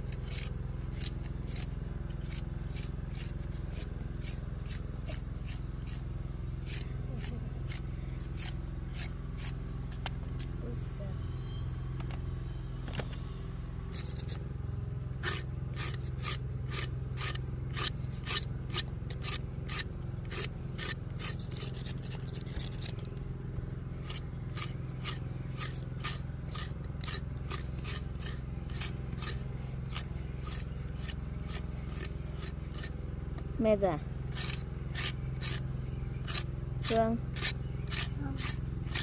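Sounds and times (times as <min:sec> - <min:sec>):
engine humming: 0:00.0 - 0:39.0
repeated scraping strokes: 0:00.0 - 0:39.0.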